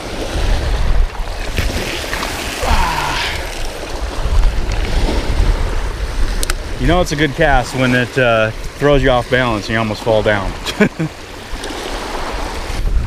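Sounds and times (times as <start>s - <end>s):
wind buffeting microphone: 0.0s - 10.7s, 11.4s - 13.0s
small waves lapping on rocks: 0.0s - 12.8s.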